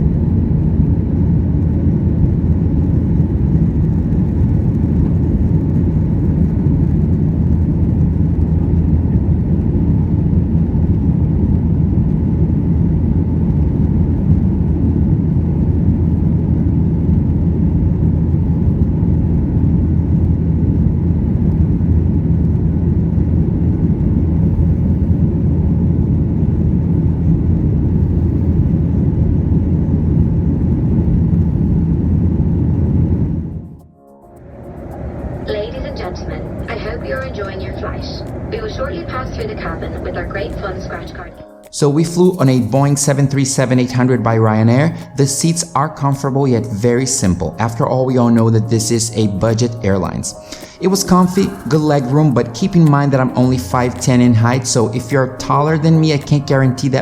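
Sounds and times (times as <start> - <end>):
airplane cabin engine drone: 0.0 - 57.0.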